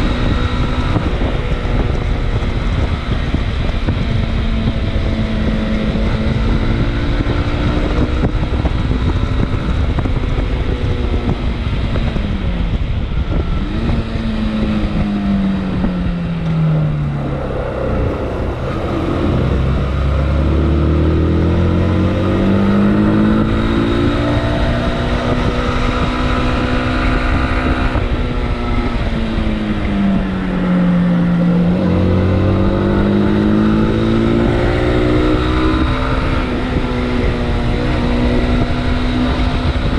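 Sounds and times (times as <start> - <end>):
motorcycle engine: 0.0 - 39.9
wind on microphone: 0.0 - 39.9.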